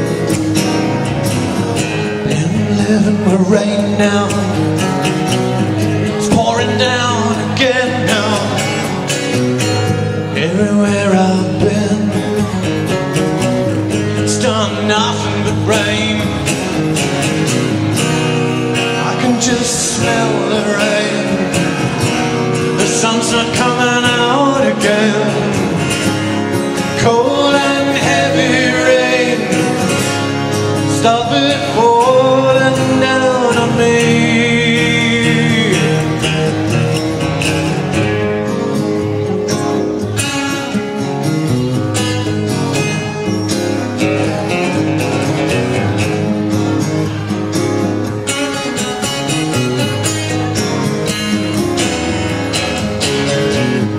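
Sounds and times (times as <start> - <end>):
acoustic and electric guitars: 0.0 - 53.9.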